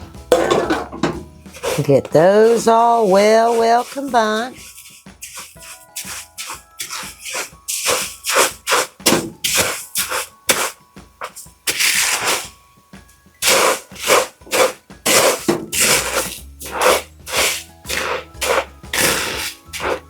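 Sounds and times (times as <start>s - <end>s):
cereal stirred in a bowl: 1.4s - 12.6s, 13.4s - 20.0s.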